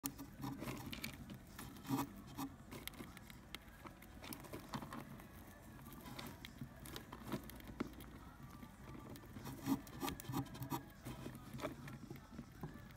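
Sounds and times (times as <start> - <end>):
birds pecking in seed: 0.0 - 12.9.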